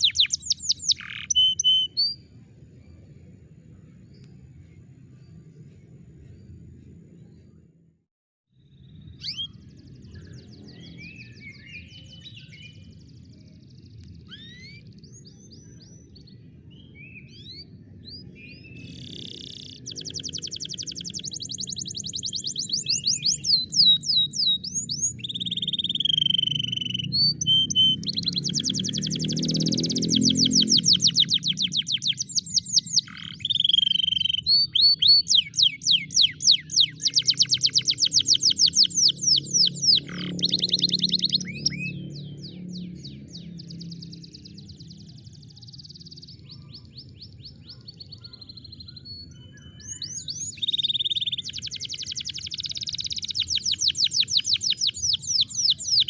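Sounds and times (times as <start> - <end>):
canary singing and trilling: 0.0 - 2.2, 8.8 - 16.4, 17.2 - 56.0.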